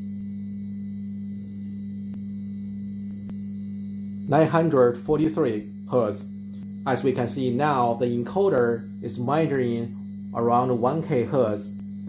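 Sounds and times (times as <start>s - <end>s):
stepper motor hum: 0.0s - 12.0s.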